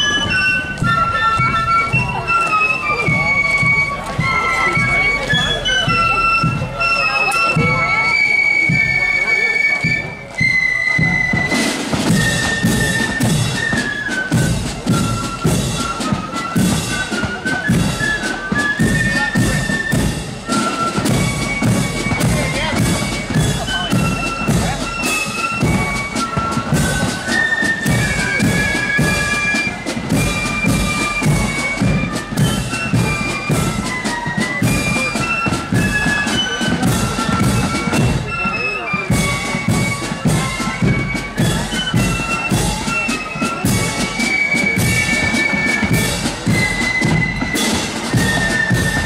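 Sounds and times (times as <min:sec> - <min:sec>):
rhythmic drumming: 0:00.0 - 0:09.0, 0:09.8 - 0:49.0
flute melody: 0:00.0 - 0:49.0.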